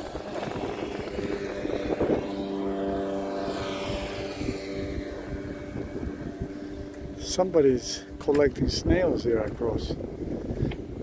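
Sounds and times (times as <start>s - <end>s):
motor boat engine drone: 0.0s - 11.0s
wind rumble on microphone: 0.0s - 11.0s.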